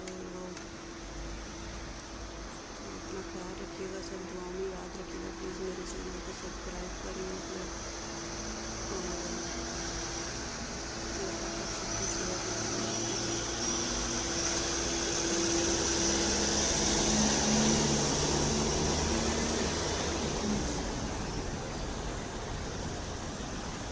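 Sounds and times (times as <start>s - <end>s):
ambulance engine driving past: 0.0s - 23.9s.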